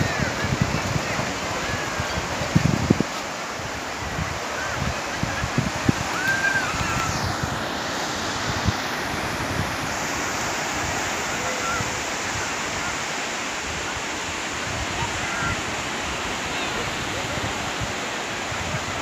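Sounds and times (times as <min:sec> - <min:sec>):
wind buffeting microphone: 0:00.0 - 0:13.0, 0:13.6 - 0:19.0
waves breaking on beach: 0:00.0 - 0:19.0.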